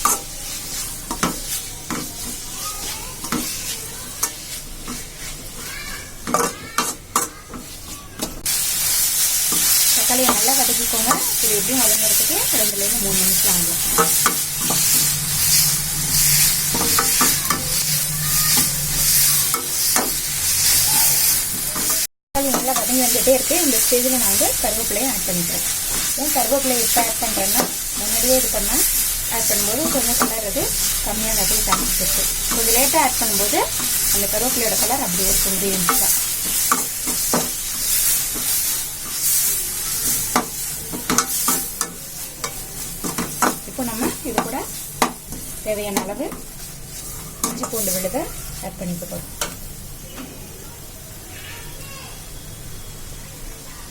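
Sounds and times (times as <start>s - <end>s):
spoon scraping against pan: 0.0s - 50.4s
vegetables sizzling in oil: 0.0s - 53.9s.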